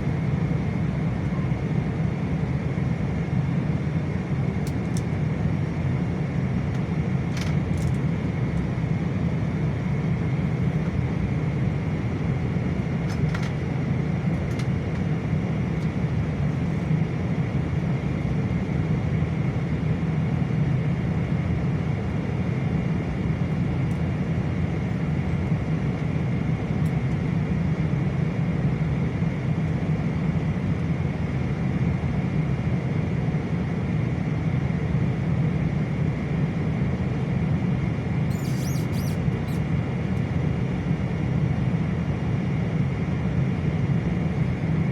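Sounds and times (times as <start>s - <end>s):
airliner cabin engine rumble: 0.0s - 44.9s
faint steady whine: 0.0s - 44.9s.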